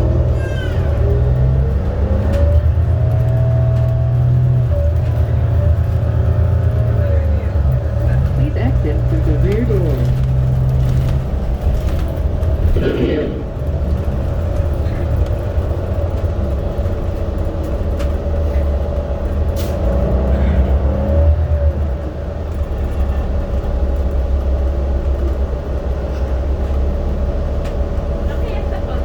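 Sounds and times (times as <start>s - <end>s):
subway train rumble and whine: 0.0s - 29.0s.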